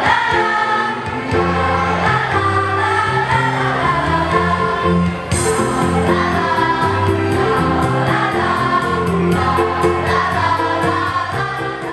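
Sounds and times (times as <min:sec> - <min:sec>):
choir singing in parts: 0:00.0 - 0:11.9.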